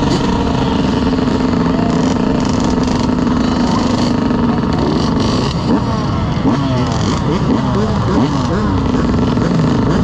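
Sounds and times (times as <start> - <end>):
dirt bike engine idling: 0.0 - 10.0
engines revving: 0.0 - 10.0.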